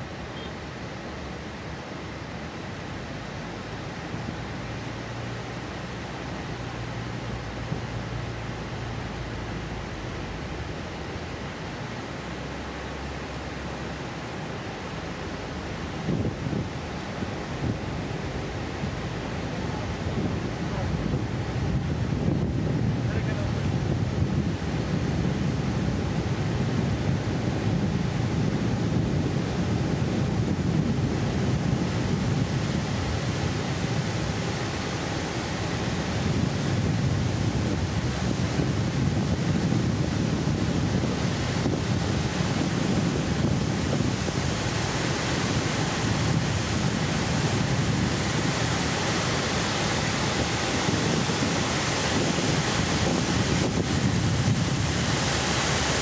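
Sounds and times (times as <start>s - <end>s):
water rushing over dam spillway: 0.0s - 56.0s
wind rumbling on microphone: 0.0s - 56.0s.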